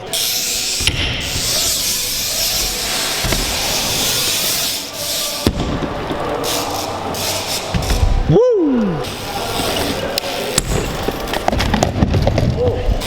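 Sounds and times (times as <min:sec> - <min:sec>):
bike tyres rolling on ramp: 0:00.8 - 0:08.3, 0:08.9 - 0:13.0.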